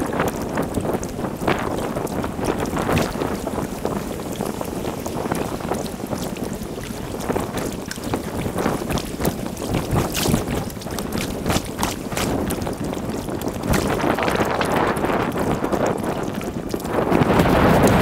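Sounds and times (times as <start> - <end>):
paddle splashing water: 0.0 - 18.0
wind buffeting microphone: 0.0 - 18.0.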